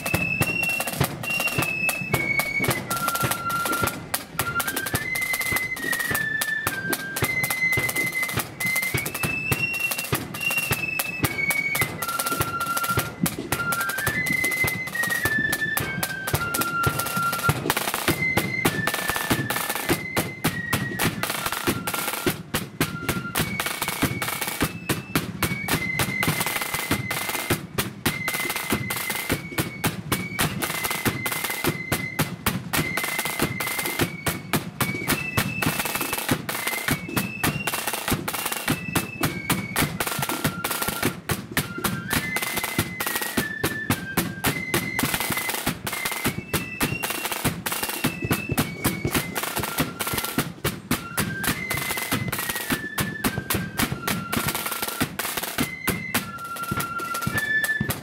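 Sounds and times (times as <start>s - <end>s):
flutes playing a melody: 0.0s - 58.0s
rapid snare drumming: 0.0s - 58.0s.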